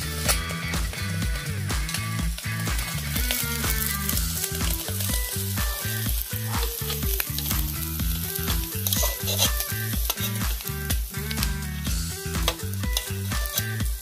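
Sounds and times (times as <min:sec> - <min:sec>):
background music with bass beat: 0:00.0 - 0:14.0
fish sizzling on grill: 0:00.0 - 0:14.0.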